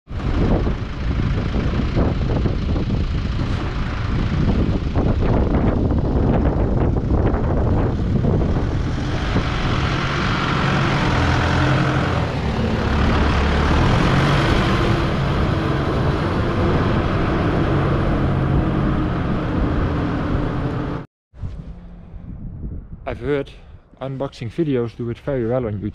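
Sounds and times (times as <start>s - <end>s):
tractor diesel engine passing: 0.1s - 21.1s.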